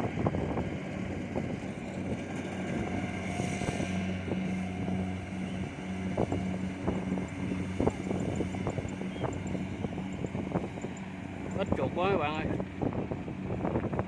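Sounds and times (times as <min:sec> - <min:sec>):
combine harvester engine hum: 0:00.0 - 0:14.0.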